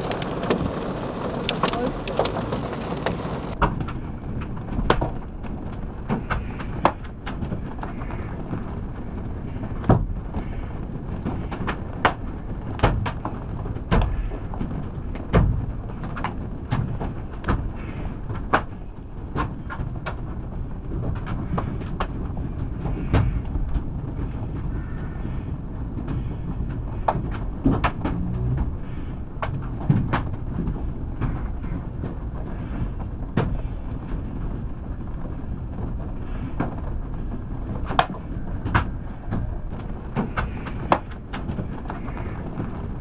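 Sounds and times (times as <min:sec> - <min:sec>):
hailstones striking car roof: 0:00.0 - 0:43.0
rain and road noise rumble: 0:00.0 - 0:43.0.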